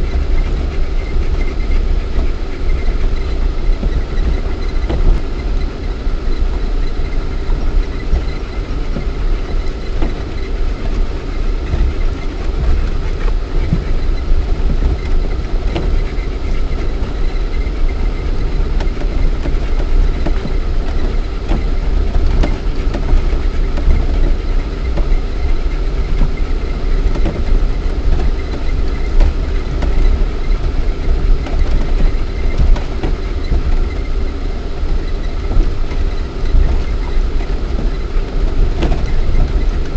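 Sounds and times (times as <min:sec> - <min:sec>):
constant whine: 0:00.0 - 0:39.9
engine and drivetrain rumble: 0:00.0 - 0:39.9
knocks and rattles over bumps: 0:00.0 - 0:39.9.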